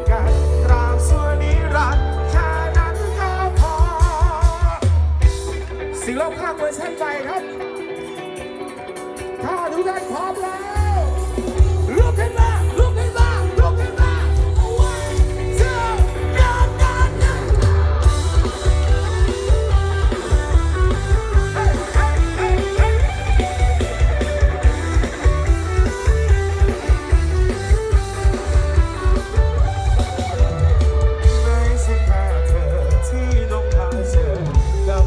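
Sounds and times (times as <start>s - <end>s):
rock band playing through pa: 0.0s - 35.0s.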